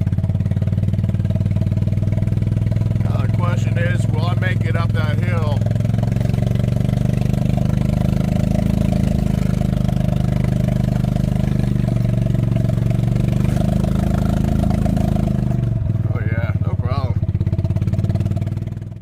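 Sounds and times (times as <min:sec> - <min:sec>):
small vehicle engine running: 0:00.0 - 0:19.0.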